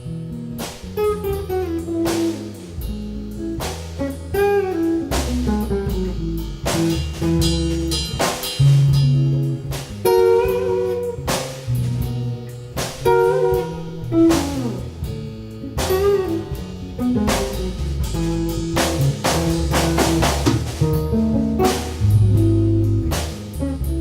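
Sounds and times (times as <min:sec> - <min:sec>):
drum kit with cymbals: 0:00.0 - 0:24.0
guitar melody: 0:00.0 - 0:24.0
sustained bass notes: 0:00.0 - 0:24.0.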